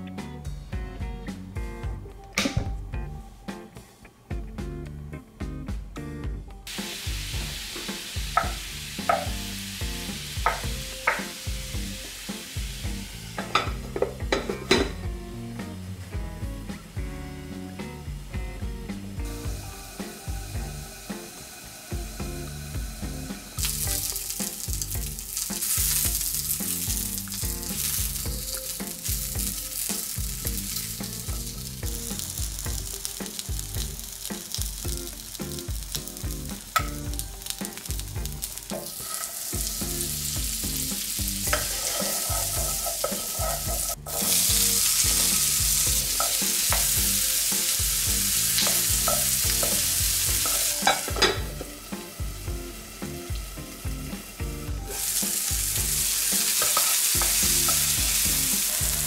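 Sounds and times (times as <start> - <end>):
onions and peppers sizzling: 6.0 - 59.0
sausages sizzling on a hot plate: 6.7 - 59.0.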